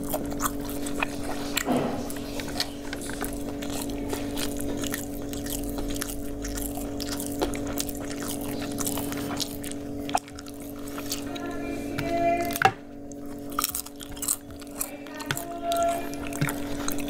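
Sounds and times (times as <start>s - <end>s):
person chewing: 0.0s - 17.0s
steady low hum: 0.0s - 17.0s.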